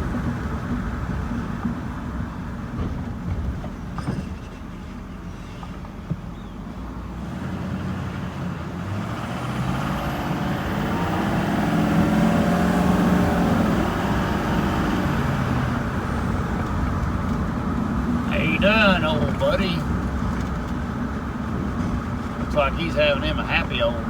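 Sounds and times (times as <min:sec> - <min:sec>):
road noise: 0:00.0 - 0:24.0
vehicle engine rumble: 0:00.0 - 0:24.0.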